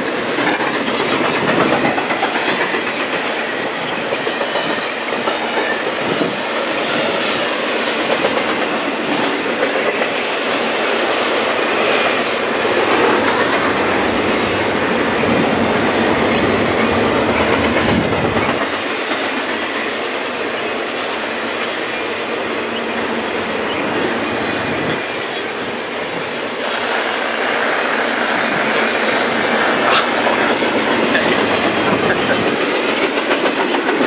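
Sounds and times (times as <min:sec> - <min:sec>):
train wheels rolling on rail: 0:00.0 - 0:34.0.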